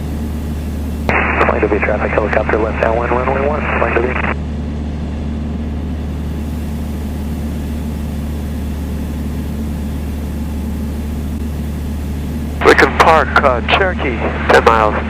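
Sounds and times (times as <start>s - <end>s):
aircraft piston engine drone: 0.0s - 15.0s.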